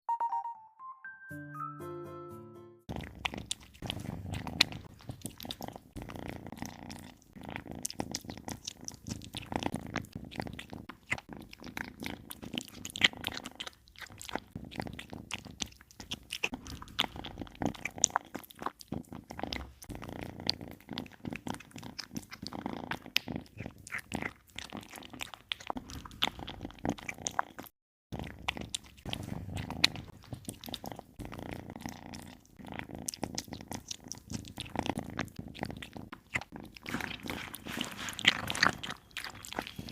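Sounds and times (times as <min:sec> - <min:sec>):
kitten chewing meat: 0:02.9 - 0:39.9.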